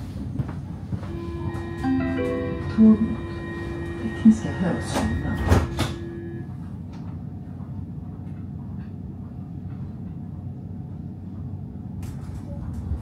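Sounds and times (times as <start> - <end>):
metro car ventilation hum: 0.0 - 13.0.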